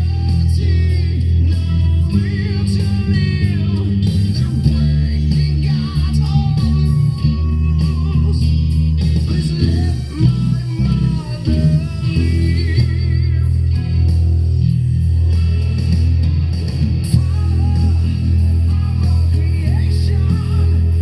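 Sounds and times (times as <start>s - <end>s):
bass guitar low notes: 0.0s - 21.0s.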